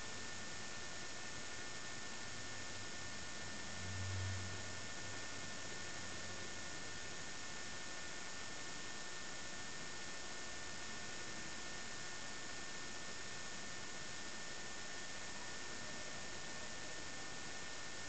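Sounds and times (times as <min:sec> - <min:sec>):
recording noise hiss: 0:00.0 - 0:18.0.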